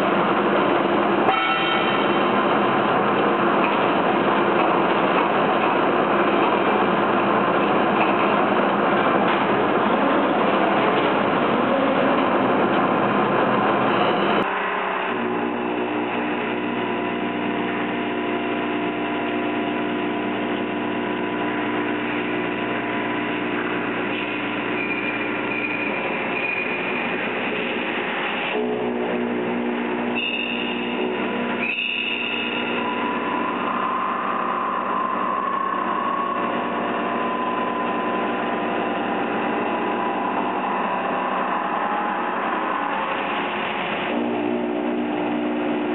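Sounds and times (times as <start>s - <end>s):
milling machine cutting steel: 0.0s - 45.9s.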